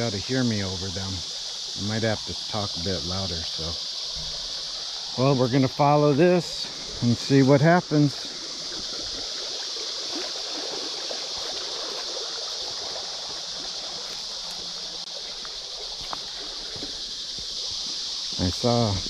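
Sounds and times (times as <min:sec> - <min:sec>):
cicadas buzzing: 0:00.0 - 0:19.0
creek water trickling over rocks: 0:00.0 - 0:19.0.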